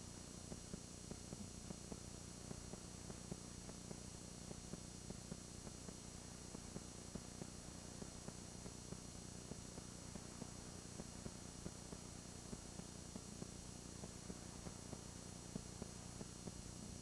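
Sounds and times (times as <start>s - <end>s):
low hum and hiss: 0.0s - 17.0s
soft irregular ticks: 0.2s - 17.0s.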